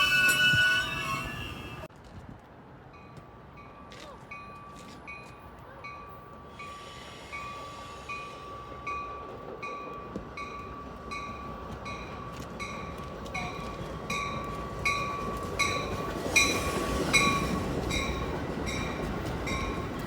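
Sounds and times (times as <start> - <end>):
crossing bell ringing: 0.0 - 1.9, 3.0 - 20.0
train rumble: 0.0 - 20.0.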